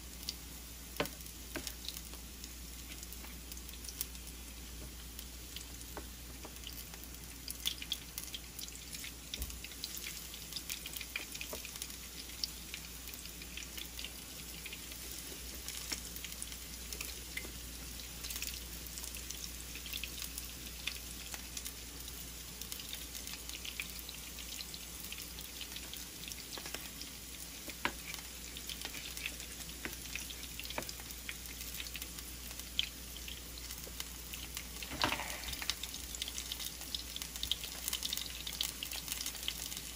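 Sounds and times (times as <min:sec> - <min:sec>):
food frying in oil: 0:00.0 - 0:39.9.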